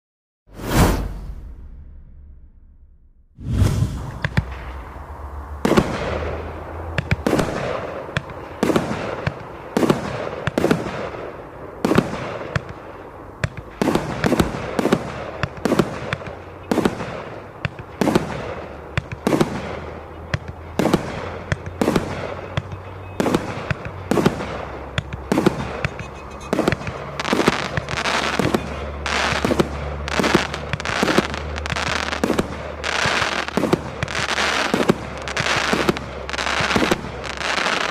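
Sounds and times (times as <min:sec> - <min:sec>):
firework battery bangs: 0:00.8 - 0:12.8, 0:13.4 - 0:37.9
firework crackle: 0:03.4 - 0:37.9.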